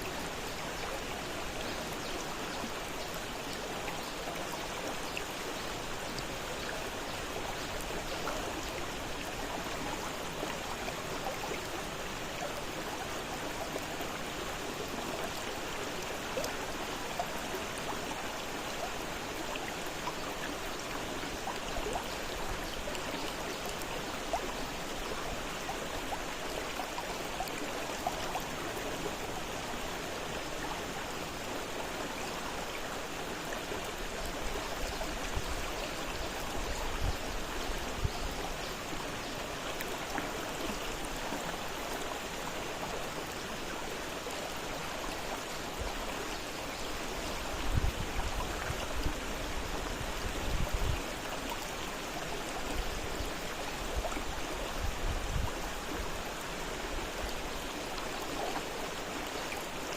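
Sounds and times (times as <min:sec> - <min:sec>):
water splashes and trickles: 0:00.0 - 0:59.9.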